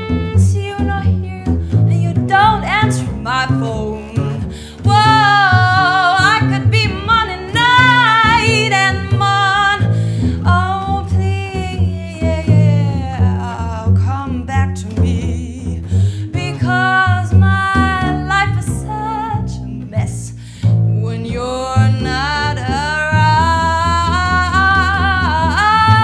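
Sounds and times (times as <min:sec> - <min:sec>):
plucked double bass: 0:00.0 - 0:26.0
woman singing blues: 0:00.0 - 0:26.0.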